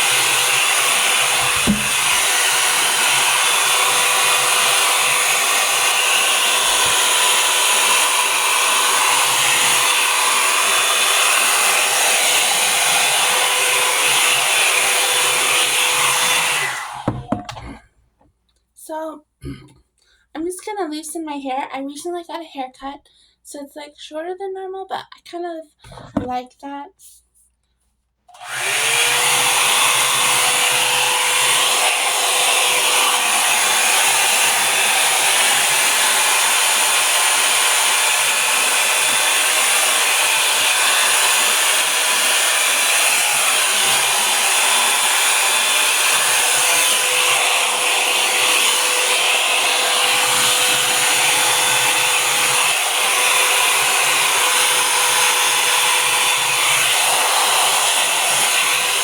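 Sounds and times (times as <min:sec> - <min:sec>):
blow dryer brush running: 0:00.0 - 0:17.8, 0:28.3 - 0:59.0.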